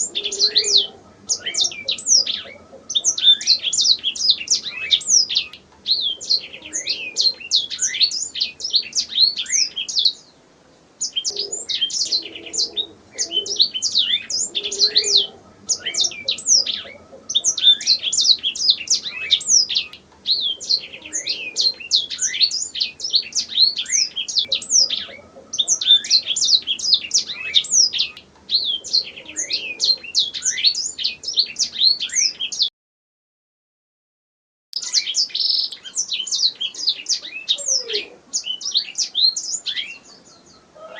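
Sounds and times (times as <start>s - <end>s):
canary singing trills: 0.0s - 10.4s, 11.0s - 32.7s, 34.8s - 40.9s.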